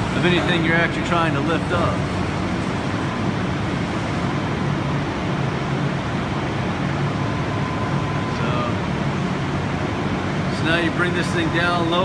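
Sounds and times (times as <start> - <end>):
crane motors humming: 0.0 - 12.0
faint whine: 0.0 - 12.0.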